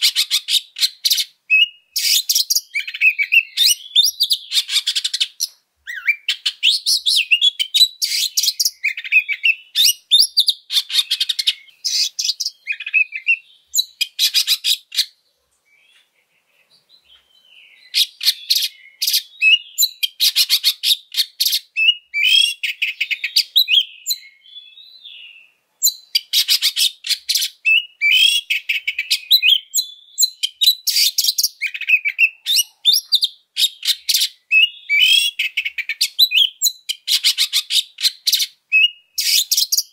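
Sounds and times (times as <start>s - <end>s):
songbird singing rattles and whistles: 0.0s - 15.2s, 15.8s - 39.9s.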